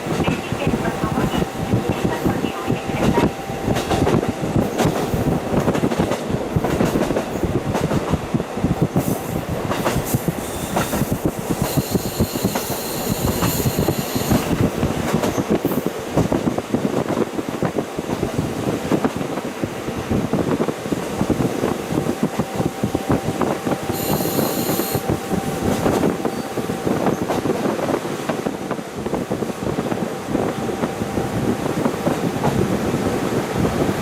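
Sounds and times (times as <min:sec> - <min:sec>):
diesel railcar rumbling: 0:00.0 - 0:34.0.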